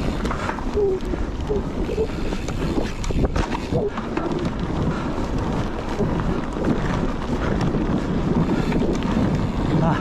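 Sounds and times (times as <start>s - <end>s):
bike clicks and rattles: 0.0s - 10.0s
tyres rumbling over dirt: 0.0s - 10.0s
wind buffeting microphone: 0.0s - 10.0s.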